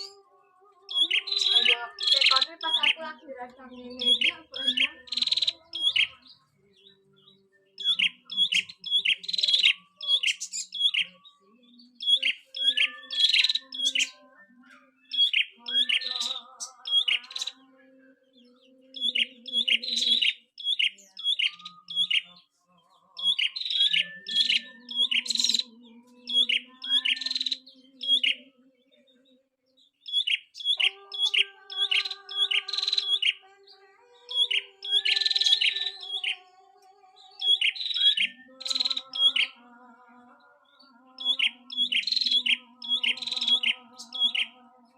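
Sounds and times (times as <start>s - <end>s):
songbird chirping: 0.0s - 44.9s.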